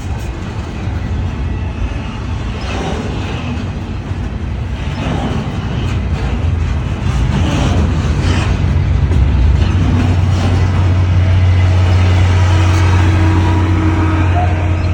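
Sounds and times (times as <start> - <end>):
freight train wheels rumbling: 0.0 - 14.9.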